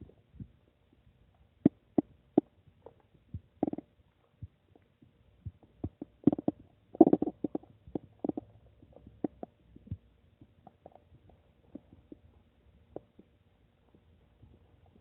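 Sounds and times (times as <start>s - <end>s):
stomach gurgling: 1.6s - 15.0s.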